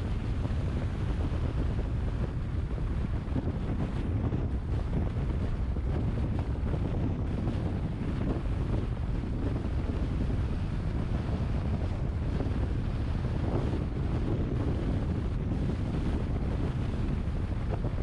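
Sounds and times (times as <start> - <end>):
car wind and tyre noise: 0.0 - 18.0
wind buffeting microphone: 0.0 - 18.0.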